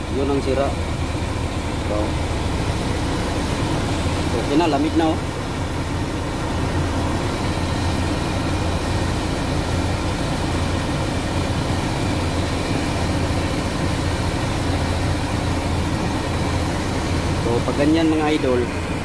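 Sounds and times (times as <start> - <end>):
air-conditioning blower fan: 0.0 - 19.0
diesel truck engine idling: 0.0 - 19.0.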